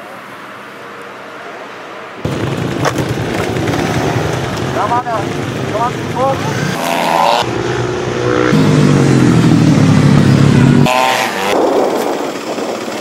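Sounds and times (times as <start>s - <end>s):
distant engine: 0.0s - 13.0s
motorcycle engines running: 2.2s - 13.0s.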